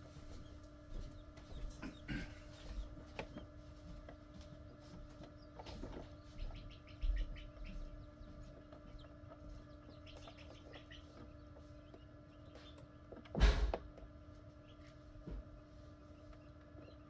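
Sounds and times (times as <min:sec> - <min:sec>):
chicks peeping: 0:00.0 - 0:17.0
incubator hum: 0:00.0 - 0:17.0.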